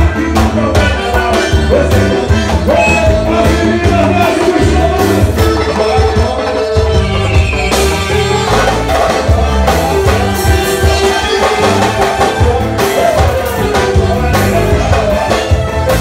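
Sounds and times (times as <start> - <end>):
music with drums and bass: 0.0 - 16.0.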